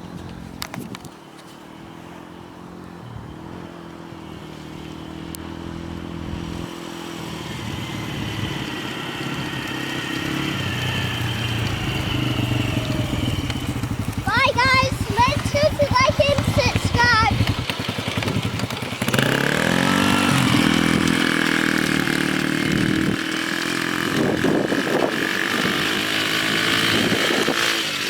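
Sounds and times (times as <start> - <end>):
off-road vehicle engine: 0.0 - 28.0.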